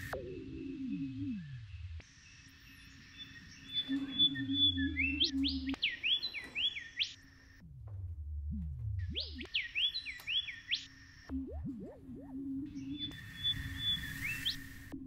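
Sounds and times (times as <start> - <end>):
low steady hum and drone: 0.0 - 6.1, 7.4 - 10.3, 10.9 - 15.0
synthesized rising chirps: 0.0 - 7.2, 8.4 - 15.0.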